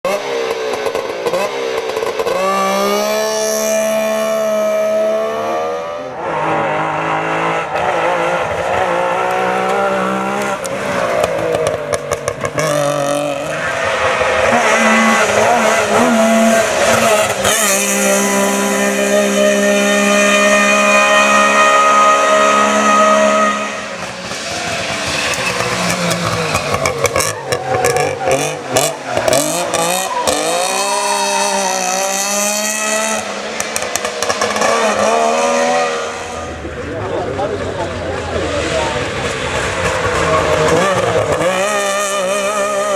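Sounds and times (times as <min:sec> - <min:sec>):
two-stroke rally car engine revving: 0:00.0 - 0:42.9.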